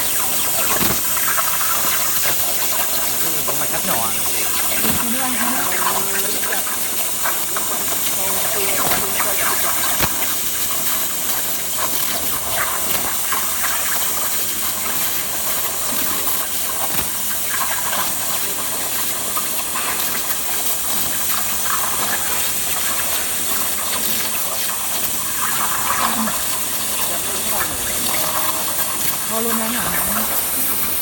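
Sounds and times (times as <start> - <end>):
plasma torch hissing: 0.0 - 19.4, 25.4 - 31.0.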